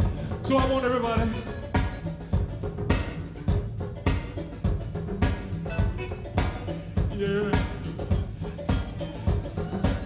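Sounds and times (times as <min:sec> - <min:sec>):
drum kit beat: 0:00.0 - 0:10.0
live funk music: 0:00.0 - 0:10.0.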